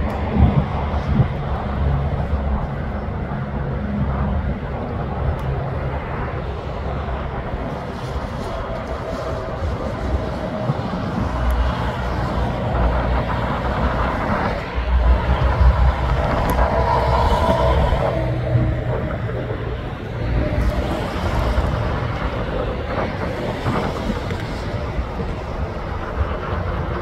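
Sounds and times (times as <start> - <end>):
highway traffic rumble: 0.0 - 27.0.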